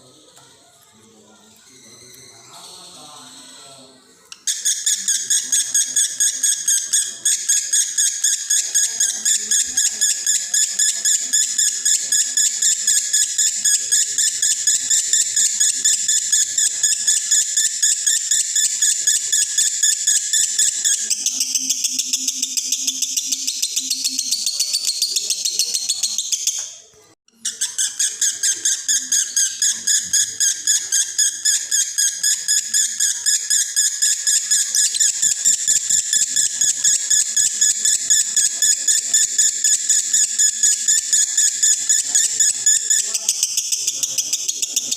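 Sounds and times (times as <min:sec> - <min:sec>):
lovebird chattering shrill chirps: 0:04.4 - 0:26.8, 0:27.4 - 0:44.9.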